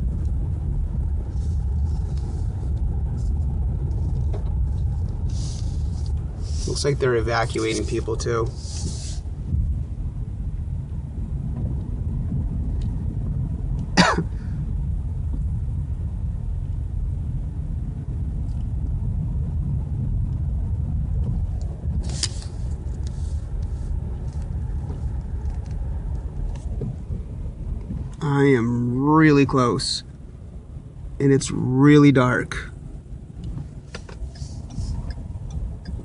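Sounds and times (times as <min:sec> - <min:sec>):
car engine rumble: 0:00.0 - 0:36.0
road noise: 0:00.0 - 0:36.0.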